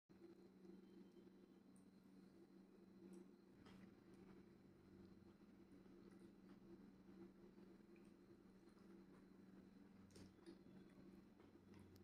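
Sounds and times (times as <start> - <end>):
faint low hum: 0.1 - 12.0.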